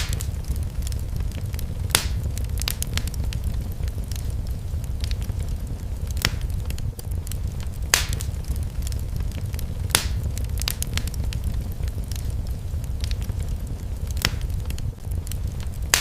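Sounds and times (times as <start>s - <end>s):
sharp fire pops: 0.0s - 16.0s
wood fire crackling: 0.0s - 16.0s.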